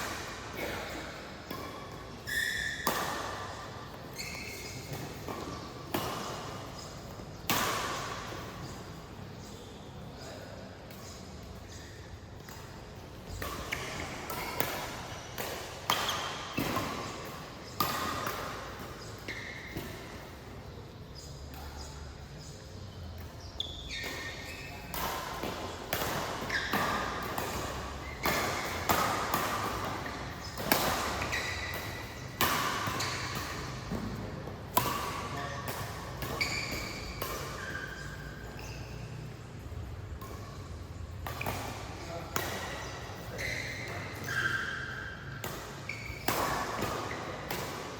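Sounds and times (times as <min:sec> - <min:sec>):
rackets hitting shuttlecock: 0:00.0 - 0:10.2, 0:10.8 - 0:47.9
court shoes squeaking: 0:00.0 - 0:47.9.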